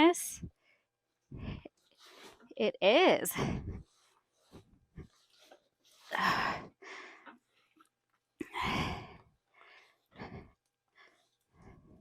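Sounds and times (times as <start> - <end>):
woman breathing heavily: 0.4 - 2.3, 3.3 - 7.8, 8.4 - 12.0.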